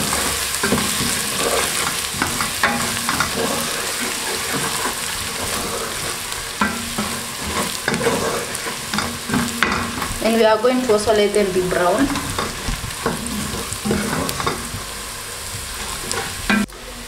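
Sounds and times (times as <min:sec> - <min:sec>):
wooden spoon scraping pot: 0:00.0 - 0:14.9, 0:15.5 - 0:16.6
food sizzling in hot oil: 0:00.0 - 0:17.0.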